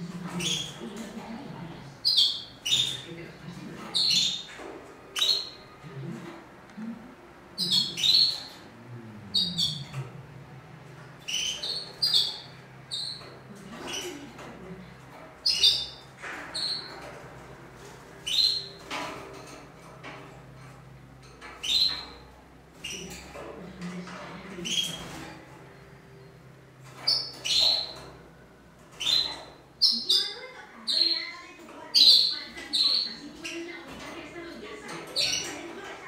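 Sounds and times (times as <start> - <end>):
birds chirping and squawking: 0.0 - 36.0.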